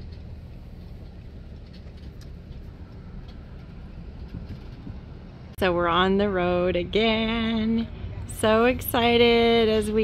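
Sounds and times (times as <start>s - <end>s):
low vehicle rumble: 0.0s - 10.0s.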